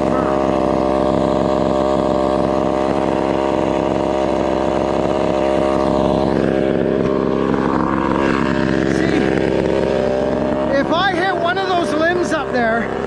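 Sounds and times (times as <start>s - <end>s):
chainsaw idling: 0.0s - 13.0s.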